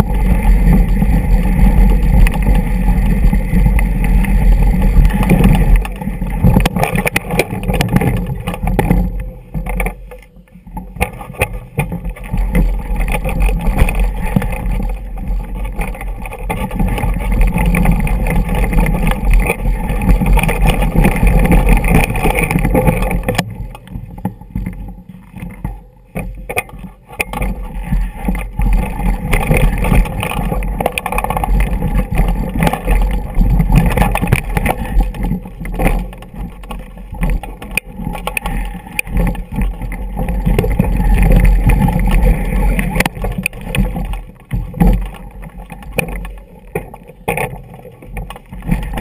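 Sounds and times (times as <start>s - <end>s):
mountain bike rattling on rocks: 0.0s - 49.0s.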